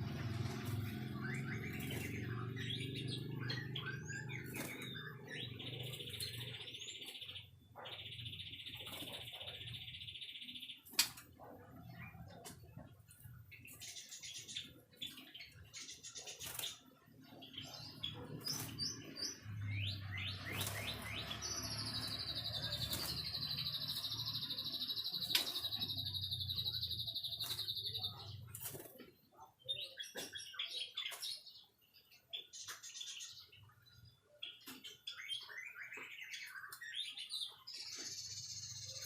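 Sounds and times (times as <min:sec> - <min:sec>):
bird singing chirps: 0:00.0 - 0:39.0.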